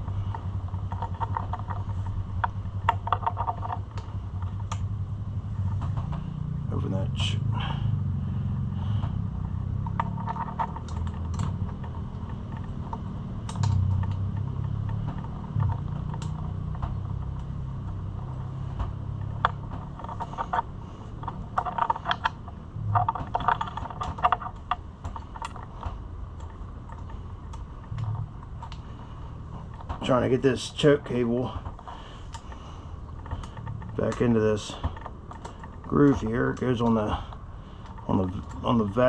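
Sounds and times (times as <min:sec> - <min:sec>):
small parts clicking and rattling: 0:00.0 - 0:06.4, 0:08.8 - 0:39.0
steady low hum: 0:00.0 - 0:39.0.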